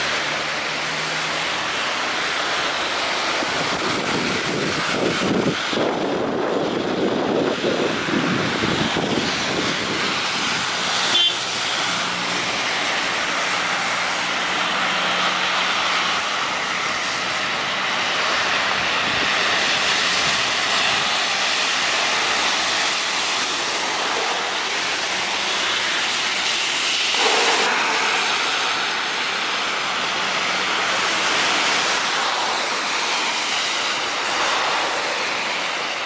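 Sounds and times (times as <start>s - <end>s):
car tyres hissing on wet road: 0.0s - 36.0s.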